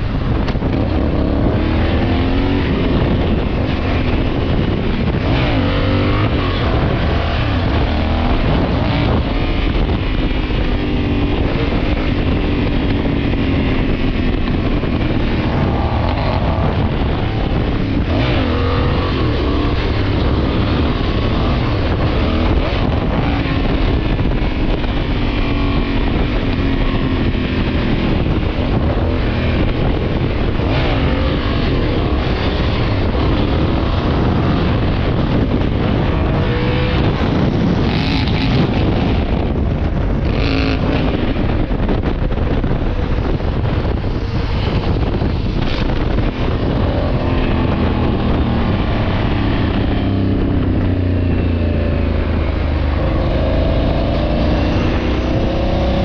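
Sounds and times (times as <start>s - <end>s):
motorcycle engine at speed: 0.0s - 56.0s
wind rush on microphone: 0.0s - 56.0s.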